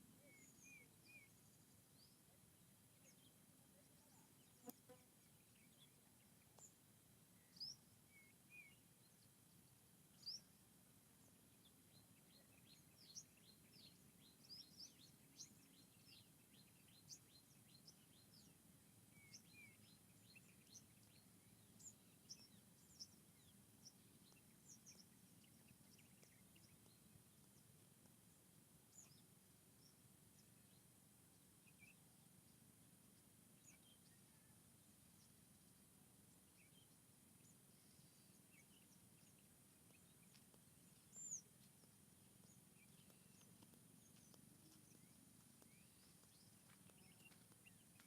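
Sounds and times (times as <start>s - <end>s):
birds chirping faintly: 0.0s - 48.0s
faint low background noise: 0.0s - 48.0s.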